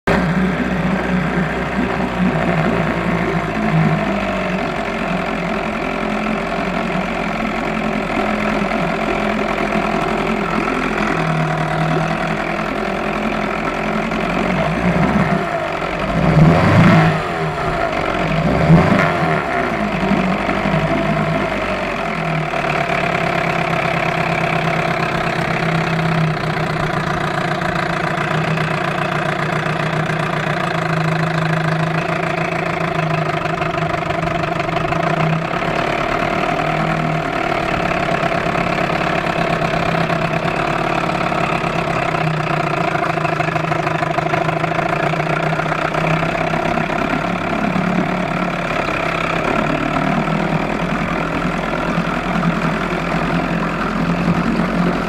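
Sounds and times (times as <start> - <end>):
outboard motor revving: 0.0 - 55.0
outboard motor running: 0.0 - 55.0.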